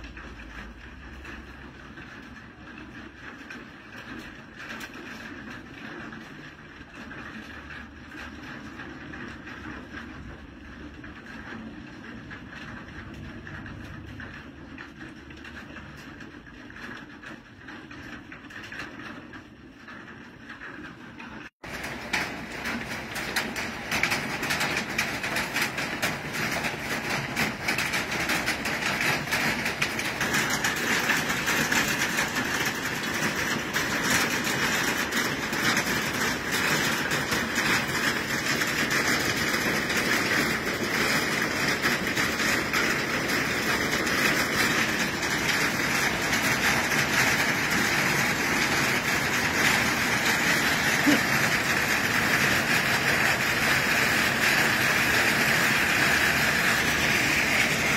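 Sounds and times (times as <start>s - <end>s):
hailstones pelting down: 0.0s - 57.9s.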